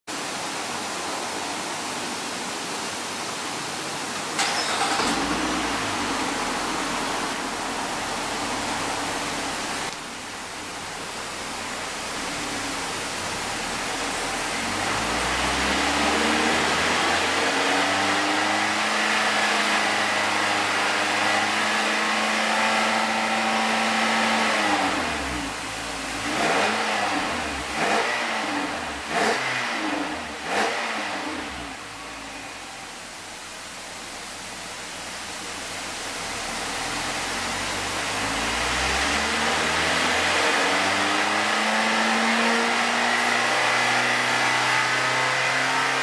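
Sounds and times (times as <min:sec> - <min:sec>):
car exhaust idling and revving: 0:04.4 - 0:46.0.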